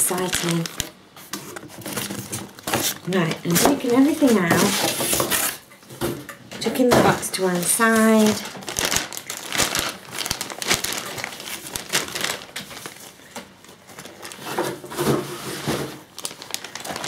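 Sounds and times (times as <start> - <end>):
plastic bags crinkling: 0.0 - 5.6, 7.0 - 17.0.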